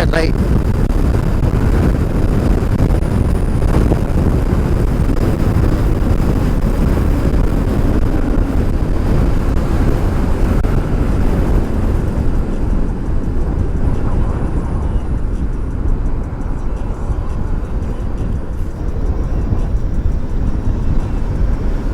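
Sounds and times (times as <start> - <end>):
wind and road noise rumble: 0.0 - 21.9.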